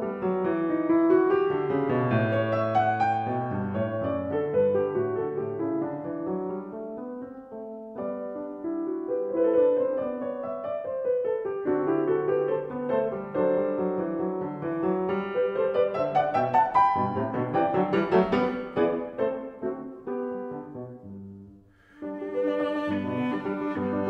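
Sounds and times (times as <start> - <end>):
background piano music: 0.0 - 24.0.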